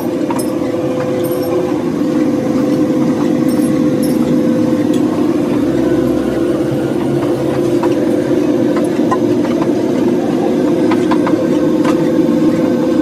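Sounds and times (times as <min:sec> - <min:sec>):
sand-mixing machine humming: 0:00.0 - 0:13.0.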